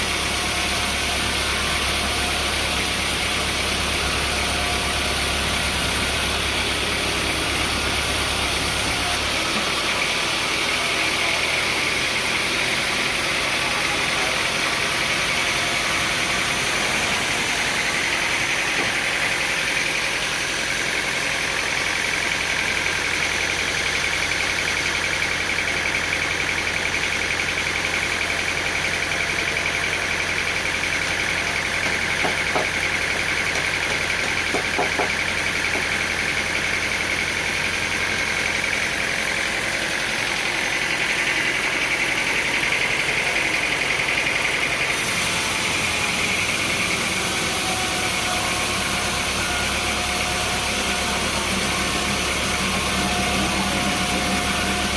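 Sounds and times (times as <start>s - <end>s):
engine running with high whine: 0.0s - 54.9s.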